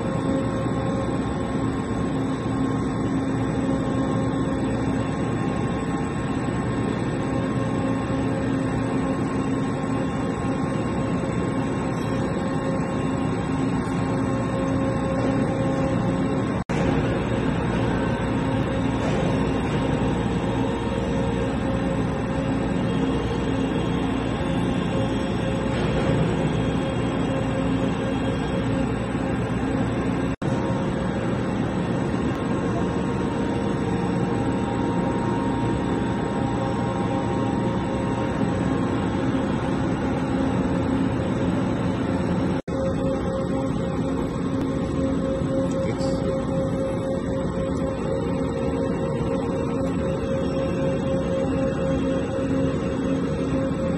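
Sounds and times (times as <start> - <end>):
boring mill machine hum: 0.0 - 53.9
dark droning soundtrack music: 0.0 - 53.9.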